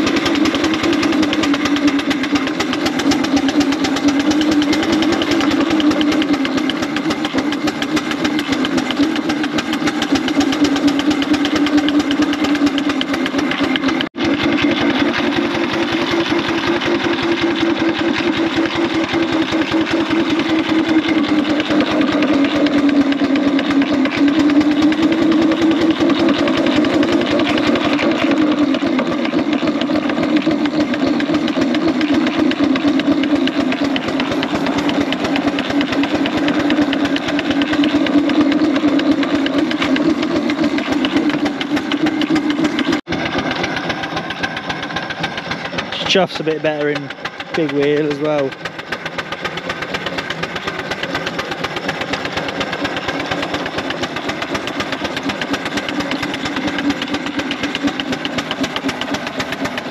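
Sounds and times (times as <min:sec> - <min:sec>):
clatter of engine motion: 0:00.0 - 0:59.9
steam engine exhaust chuffing: 0:00.0 - 0:59.9.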